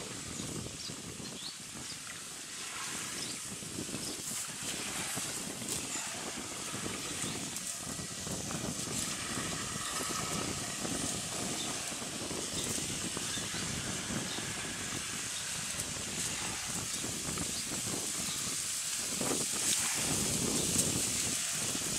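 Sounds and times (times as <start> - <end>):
small waves washing on sand: 0.0 - 21.9
wind hiss: 0.0 - 21.9
wind rumble on microphone: 0.0 - 21.9.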